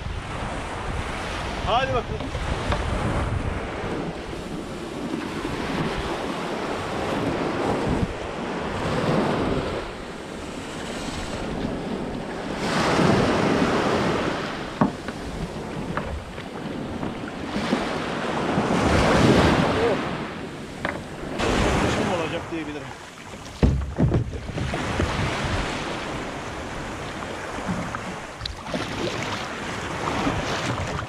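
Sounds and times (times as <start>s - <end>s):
small waves washing on sand: 0.0s - 31.0s
wind buffeting microphone: 0.0s - 31.0s.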